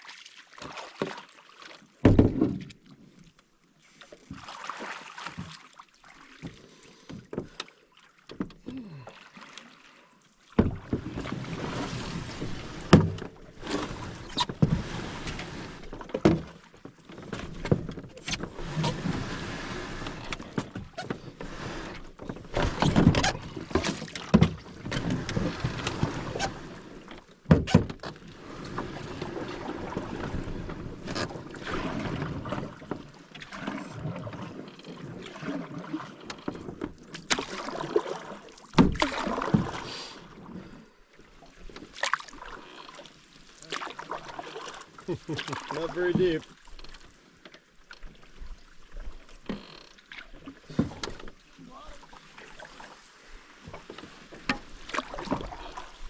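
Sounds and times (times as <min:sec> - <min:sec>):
paddle splashing water: 0:00.0 - 0:56.0.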